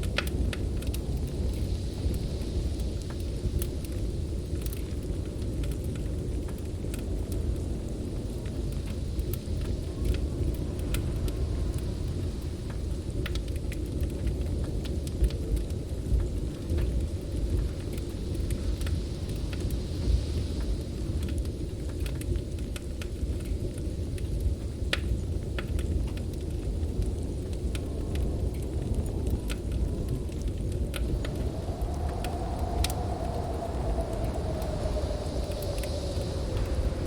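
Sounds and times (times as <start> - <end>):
blizzard wind rumbling: 0.0 - 37.0
wood fire crackling: 0.0 - 37.0.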